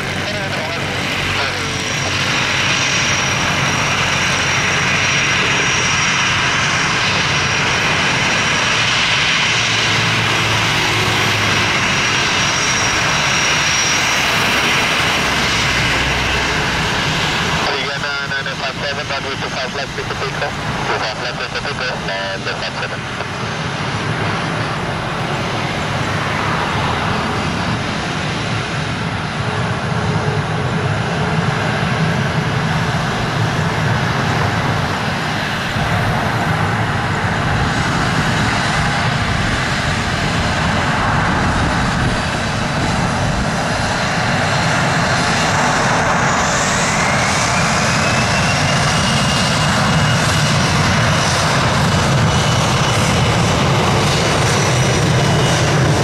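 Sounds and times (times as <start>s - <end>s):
jet engine whine: 0.0s - 56.0s
jet engines roaring: 0.0s - 56.0s.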